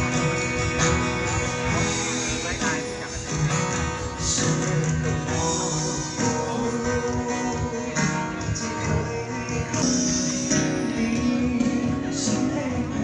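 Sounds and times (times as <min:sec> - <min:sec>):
guitar music: 0:00.0 - 0:13.0.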